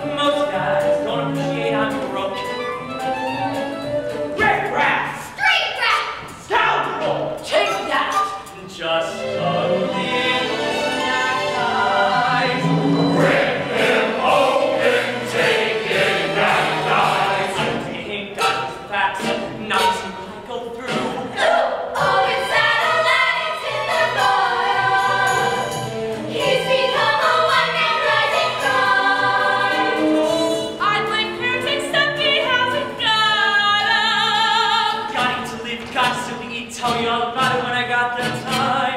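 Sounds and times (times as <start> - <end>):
recorded accompaniment track: 0.0 - 38.9.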